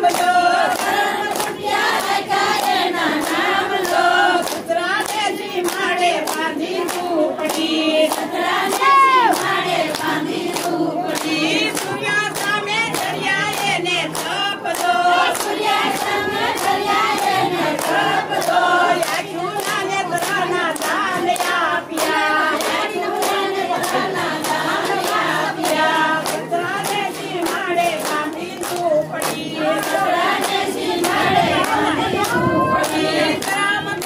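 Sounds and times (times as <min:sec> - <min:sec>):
rhythmic hand-clapping: 0:00.0 - 0:34.0
women singing in unison: 0:00.0 - 0:34.0.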